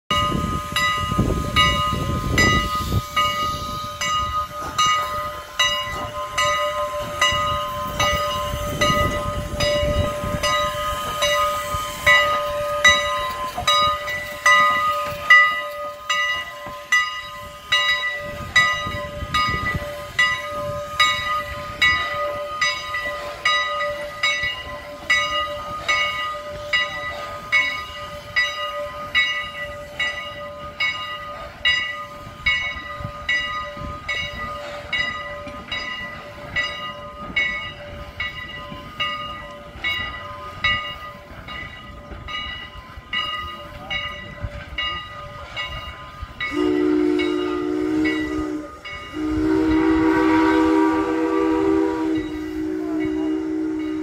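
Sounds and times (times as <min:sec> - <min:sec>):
locomotive bell ringing: 0:00.1 - 0:54.0
steam hiss: 0:00.1 - 0:54.0
steam locomotive exhaust chuffs: 0:00.1 - 0:54.0.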